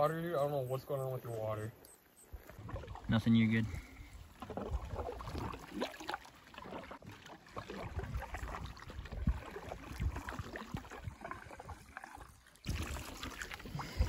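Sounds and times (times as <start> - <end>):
water sloshing along hull: 0.0 - 14.0
paddle strokes: 1.8 - 14.0.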